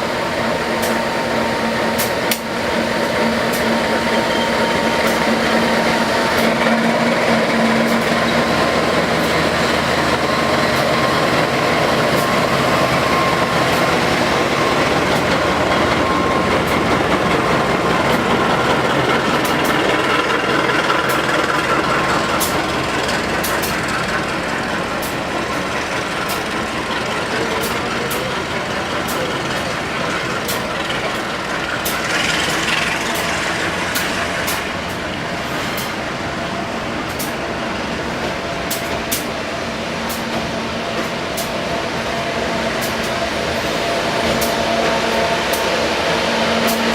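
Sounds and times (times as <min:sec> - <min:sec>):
train rumbling and rattling on rails: 0:00.0 - 0:46.9.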